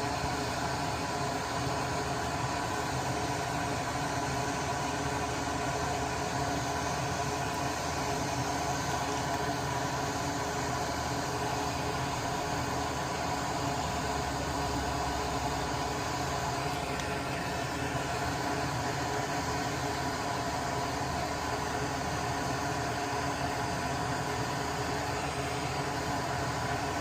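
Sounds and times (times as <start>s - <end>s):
extractor fan whirring hum: 0.0s - 27.0s.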